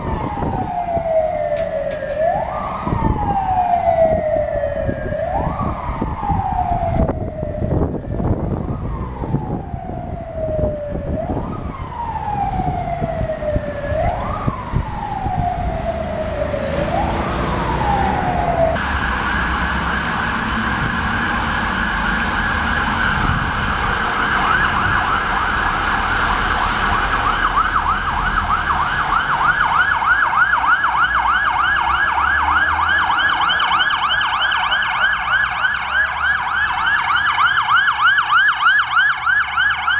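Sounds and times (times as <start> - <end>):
siren wailing: 0.0 - 39.9
traffic on a wet road: 0.0 - 39.9
warbling yelp siren: 0.0 - 39.9.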